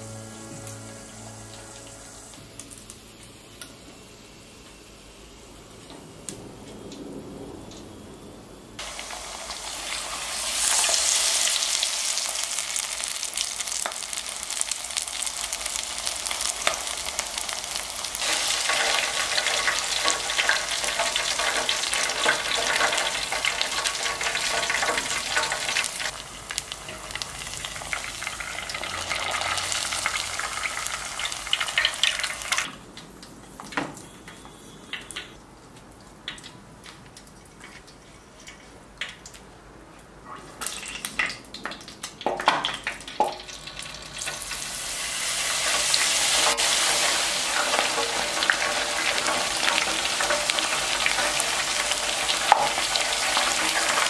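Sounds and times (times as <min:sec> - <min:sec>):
battered leaf deep-frying in oil: 0:00.0 - 0:54.0.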